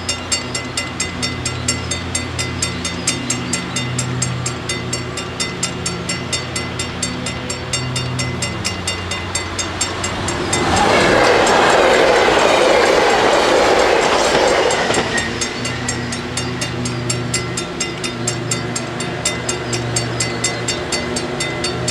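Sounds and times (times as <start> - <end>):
level-crossing bells ringing: 0.0 - 21.9
train passing rushing noise: 3.0 - 21.9.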